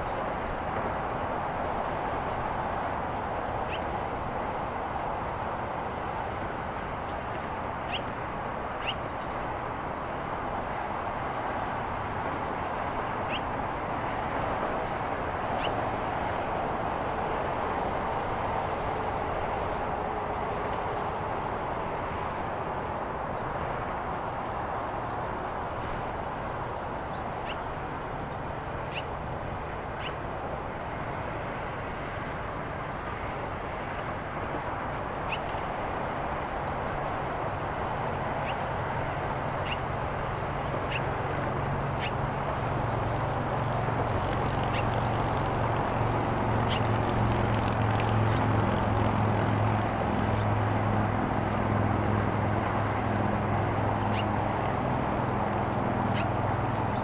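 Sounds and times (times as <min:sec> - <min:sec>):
rushing outdoor background noise: 0:00.0 - 0:57.0.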